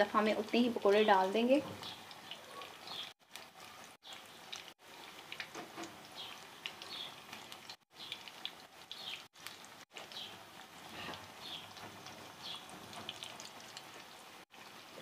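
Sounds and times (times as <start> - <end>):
batter deep-frying sizzle: 0.0 - 15.0.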